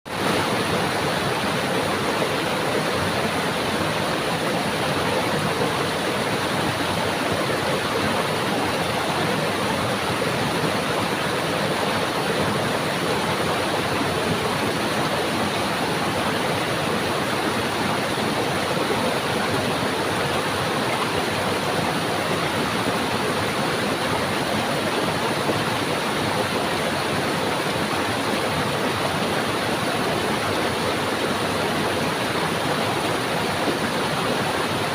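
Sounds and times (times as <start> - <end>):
stream water rushing and babbling: 0.1 - 34.9.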